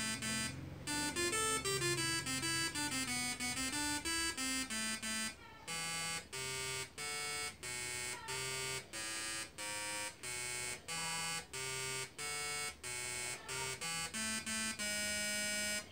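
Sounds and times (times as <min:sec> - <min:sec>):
tesla coil buzzy notes: 0:00.0 - 0:15.9.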